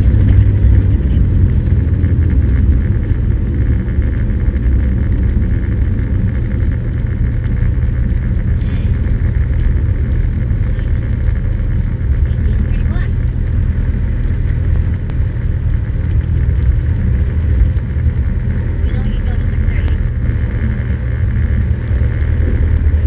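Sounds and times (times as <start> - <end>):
aircraft engine and propeller droning: 0.0 - 23.0.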